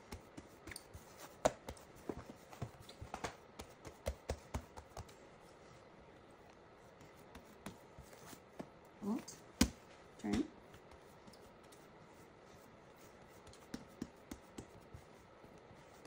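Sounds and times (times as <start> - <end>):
hands patting dough: 0.0 - 16.0.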